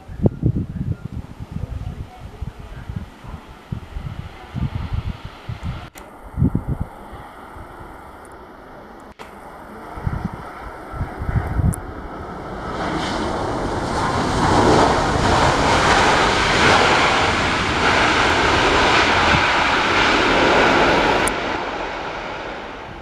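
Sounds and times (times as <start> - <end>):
airliner passing overhead: 0.0 - 23.0.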